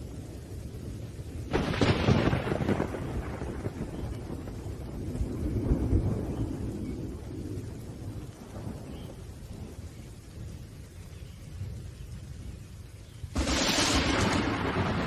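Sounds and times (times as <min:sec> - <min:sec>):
low thunder rumbling: 0:00.0 - 0:15.0
rain hissing: 0:00.0 - 0:15.0.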